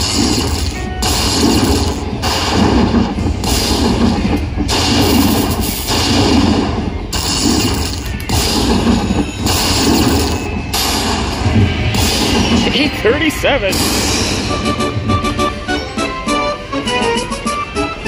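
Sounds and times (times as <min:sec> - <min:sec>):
slot machine booming crashes: 0:00.0 - 0:16.5.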